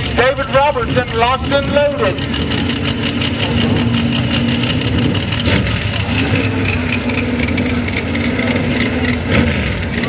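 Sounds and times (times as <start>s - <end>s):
racing engines idling loudly: 0.0s - 10.0s.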